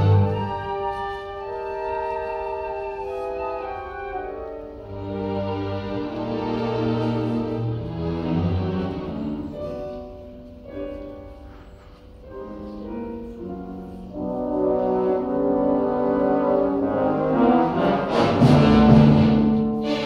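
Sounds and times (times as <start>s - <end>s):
orchestra playing: 0.0s - 20.0s.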